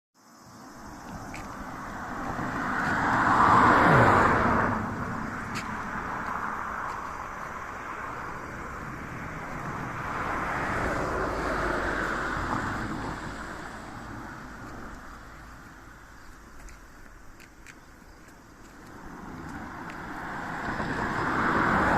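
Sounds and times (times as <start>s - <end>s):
vehicle passing by: 0.8s - 16.6s, 18.5s - 21.9s.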